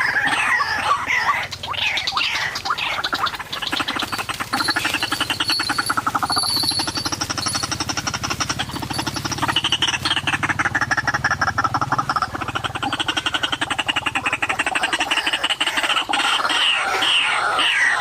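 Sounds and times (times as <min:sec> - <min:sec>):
bird rattling croak: 0:00.0 - 0:18.0
bird squawking: 0:00.0 - 0:18.0.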